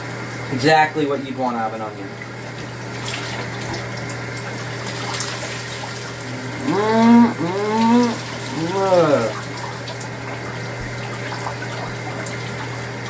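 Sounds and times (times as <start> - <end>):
shower running: 0.0 - 13.0.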